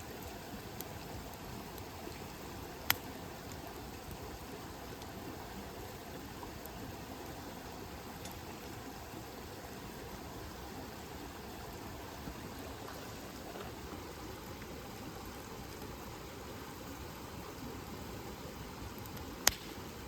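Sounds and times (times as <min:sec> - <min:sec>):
campfire hissing: 0:00.0 - 0:20.0
fire crackling: 0:00.0 - 0:20.0.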